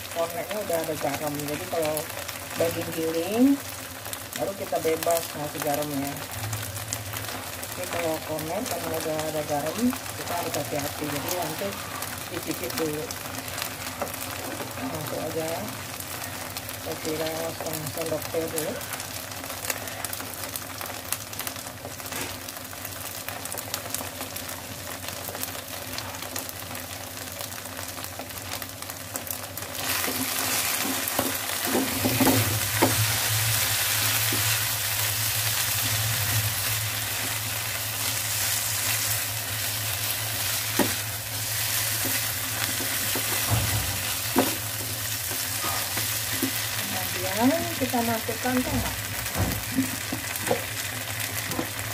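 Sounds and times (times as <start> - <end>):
meat sizzling in a frying pan: 0.0 - 51.9.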